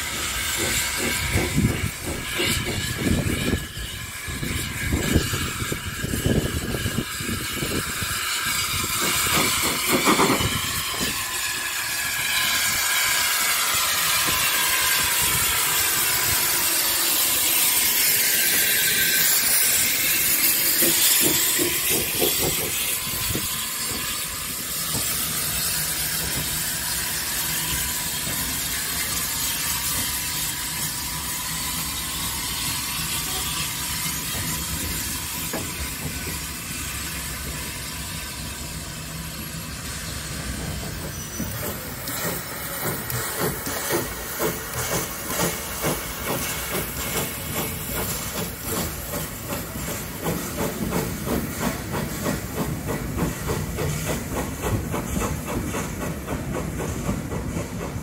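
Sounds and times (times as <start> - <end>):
steam hissing: 0.0 - 58.0
train rhythmic beat: 0.0 - 58.0.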